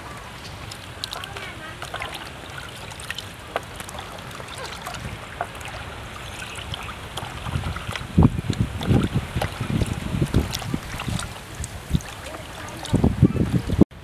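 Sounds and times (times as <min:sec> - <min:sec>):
small water splashes: 0:00.0 - 0:13.8
water sloshing and dripping: 0:00.0 - 0:13.8.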